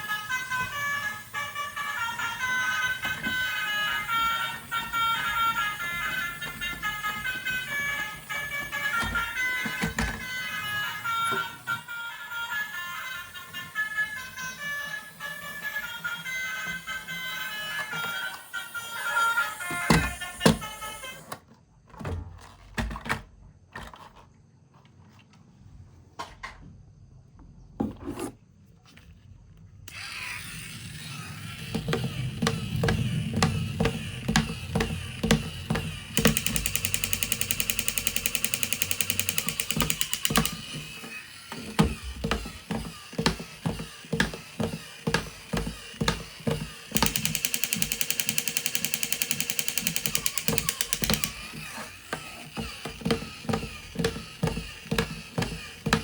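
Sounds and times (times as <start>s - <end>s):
plastic toys clicking and knocking: 0.0s - 11.9s, 12.7s - 21.4s, 31.1s - 56.0s
toy gear mechanism buzzing: 0.0s - 21.4s, 29.9s - 56.0s.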